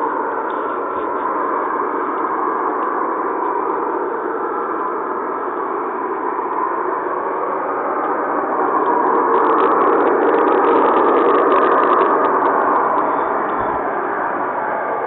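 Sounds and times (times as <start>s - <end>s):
boiler rushing roar: 0.0s - 15.0s.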